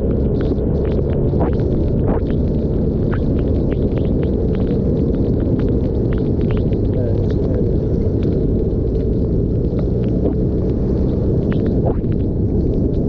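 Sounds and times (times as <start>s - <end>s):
raindrops hitting camera: 0.0s - 13.0s
wind on camera: 0.0s - 13.0s.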